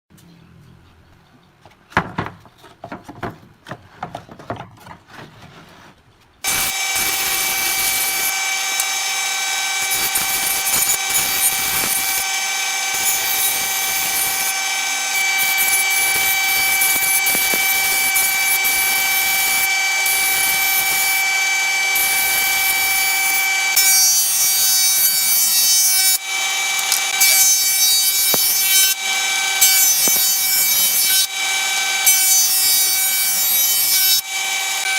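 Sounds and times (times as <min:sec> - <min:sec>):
power saw cutting wood: 0:06.4 - 0:34.9.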